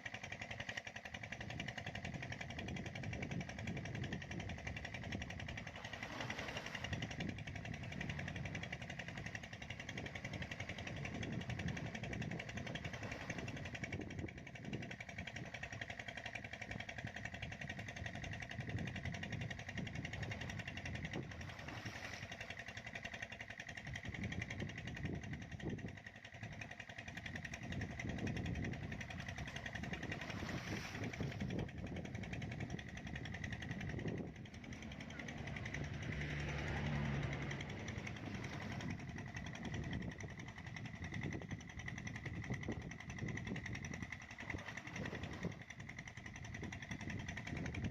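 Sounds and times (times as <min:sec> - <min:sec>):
motor running: 0:00.0 - 0:47.9.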